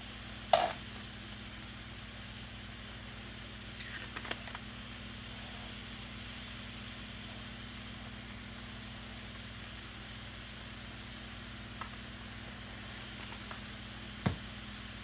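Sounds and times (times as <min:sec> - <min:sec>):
fish sizzling in a skillet: 0:00.0 - 0:15.0.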